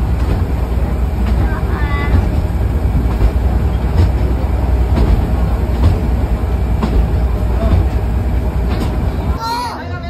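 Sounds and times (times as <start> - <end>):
wheels clacking over rail joints: 0.0 - 9.4
train wheels rumbling: 0.0 - 10.0.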